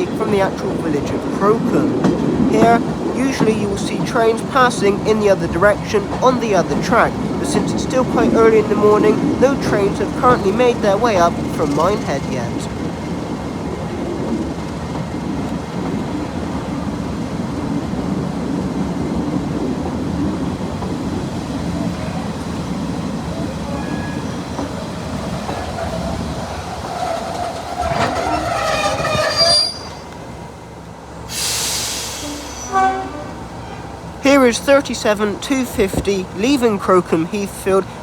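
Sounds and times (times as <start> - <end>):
brakes and wheels squealing: 0.0 - 14.9, 20.8 - 38.0
train rumbling: 0.0 - 38.0.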